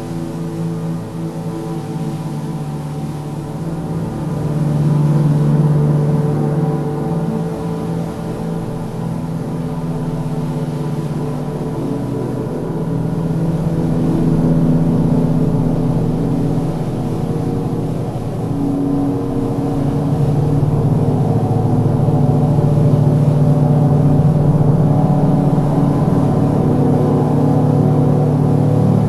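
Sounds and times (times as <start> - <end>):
ambient music with low drones: 0.0 - 29.0.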